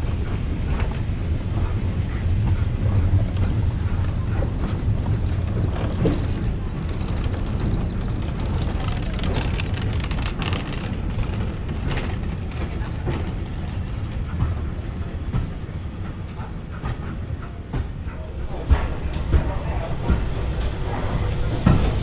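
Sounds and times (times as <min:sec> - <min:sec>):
train clanks and knocks: 0:00.0 - 0:22.0
train rumbling on track: 0:00.0 - 0:22.0.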